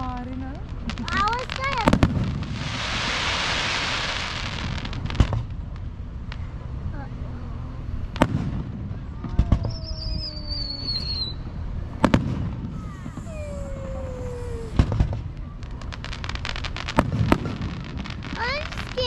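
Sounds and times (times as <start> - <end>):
firework shells booming: 0.0 - 6.5, 8.1 - 19.0
firework crackling: 0.0 - 19.0.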